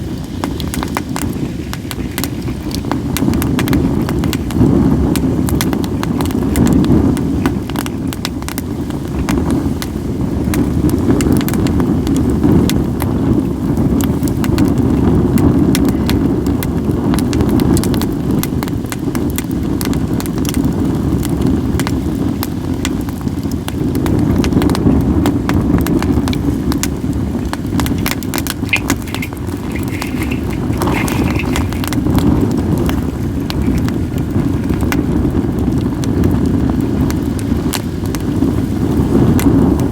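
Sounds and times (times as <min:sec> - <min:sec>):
wind rumble on microphone: 0:00.0 - 0:39.9
wood fire crackling and popping: 0:00.0 - 0:39.9.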